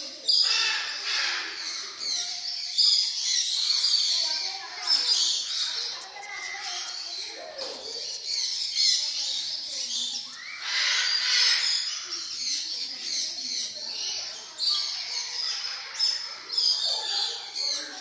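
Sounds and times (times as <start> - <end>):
parrots calling: 0.2 - 7.2, 7.8 - 18.0.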